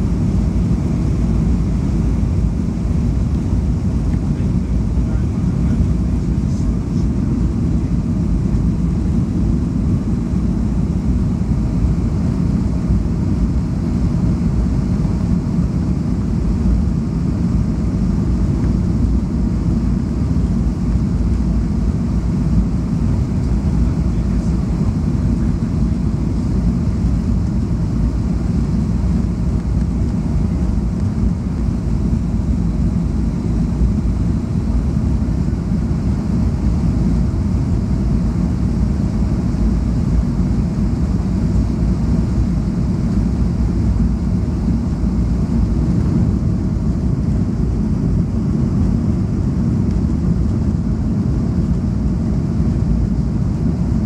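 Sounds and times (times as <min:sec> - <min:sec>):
airplane cabin engine hum: 0:00.0 - 0:54.0.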